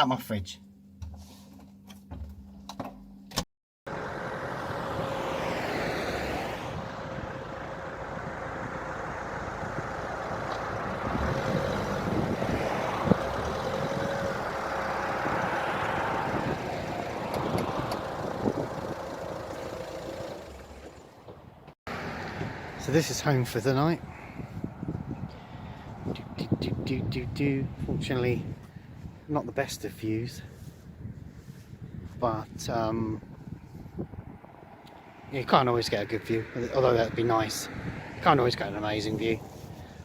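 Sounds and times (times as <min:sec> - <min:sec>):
car engine and road noise: 0:00.7 - 0:40.0.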